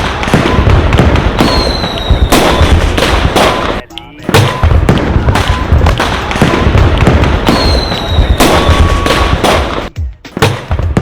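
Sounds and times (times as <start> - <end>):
firework whistle: 0.0 - 3.8, 4.4 - 9.9
fireworks cracks and bangs: 0.0 - 11.0.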